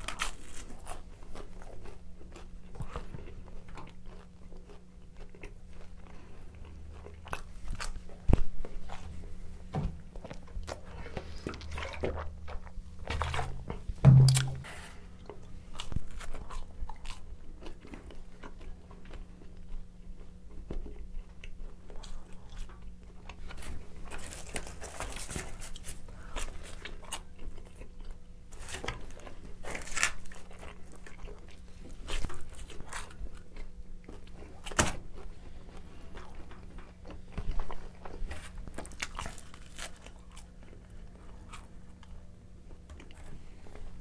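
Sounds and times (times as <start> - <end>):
pizza bites and chewing: 0.0 - 9.4, 10.0 - 44.0.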